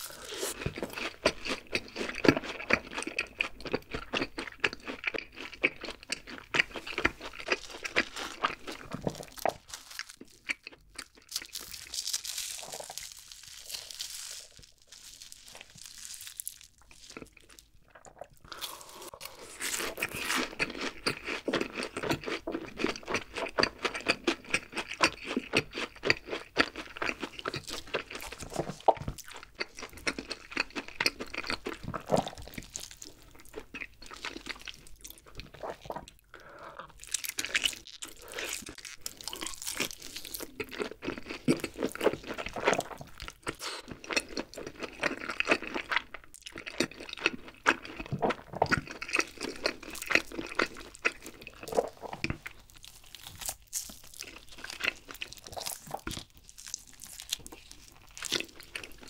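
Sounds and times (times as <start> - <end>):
person chewing with mouth clicks: 0.0 - 11.9, 16.8 - 59.0.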